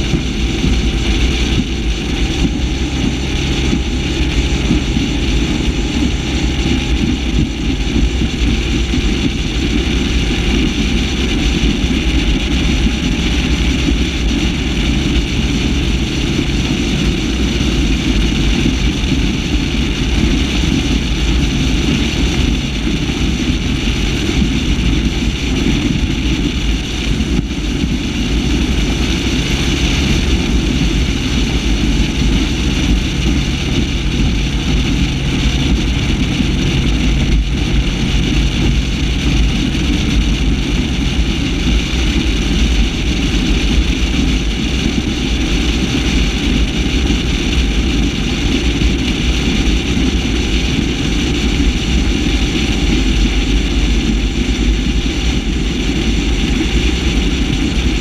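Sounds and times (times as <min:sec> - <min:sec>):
powerboat engine droning: 0:00.0 - 0:58.0
water and wind hiss: 0:00.0 - 0:58.0.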